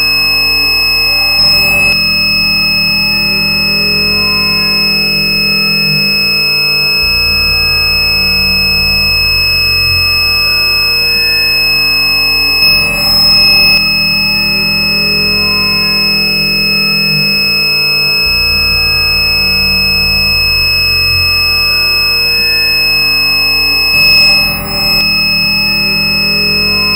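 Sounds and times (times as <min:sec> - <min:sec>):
high-pitched electronic beep tone: 0:00.0 - 0:26.9.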